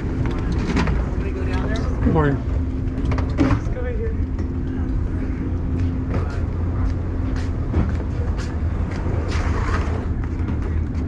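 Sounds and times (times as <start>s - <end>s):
ferry machinery humming: 0.0s - 11.0s.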